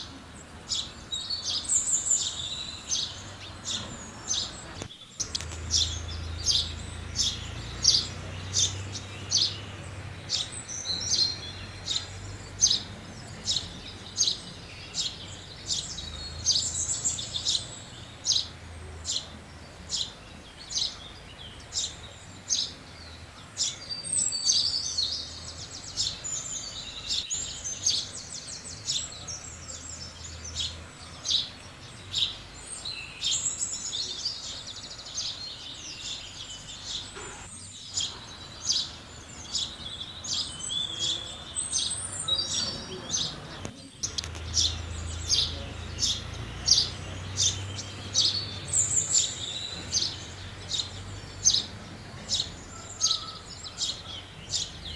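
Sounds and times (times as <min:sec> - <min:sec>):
sparrows chirping and twittering: 0:00.0 - 0:54.9.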